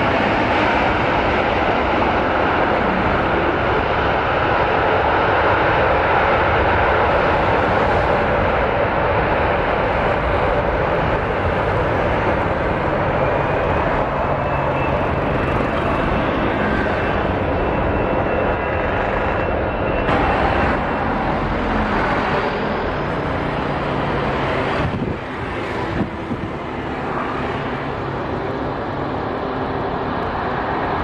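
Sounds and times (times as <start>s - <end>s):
jet engine rushing noise: 0.0s - 31.0s.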